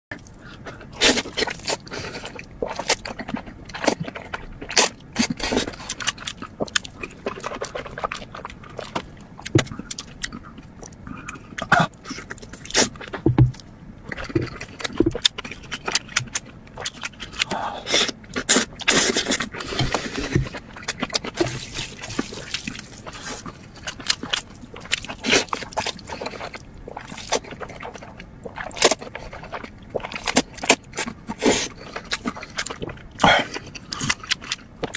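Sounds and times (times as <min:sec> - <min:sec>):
chewing and mouth clicks: 0:00.2 - 0:34.9.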